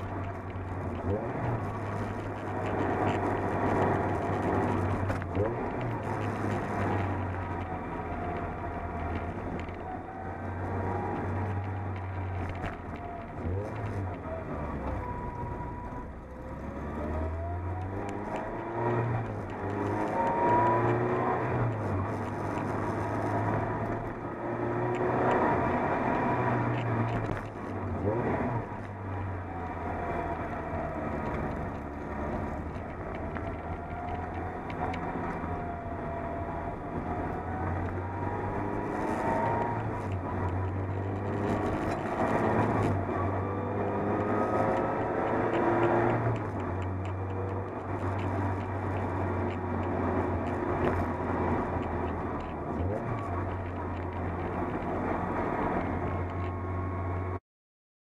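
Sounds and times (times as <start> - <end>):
car engine revving while driving: 0.0 - 57.4.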